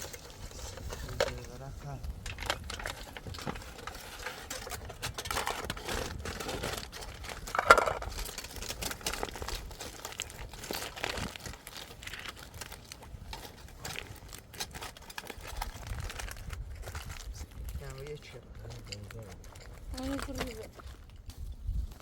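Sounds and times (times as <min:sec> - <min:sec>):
crinkling and rustling with clicks: 0:00.0 - 0:22.0.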